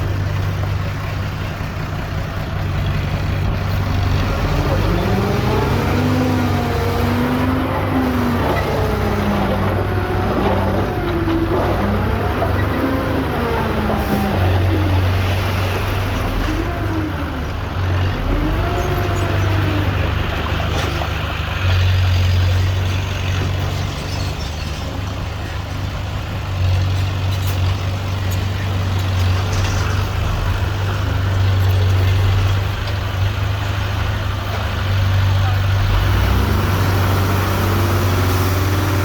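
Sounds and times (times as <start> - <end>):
diesel engine droning: 0.0 - 39.0.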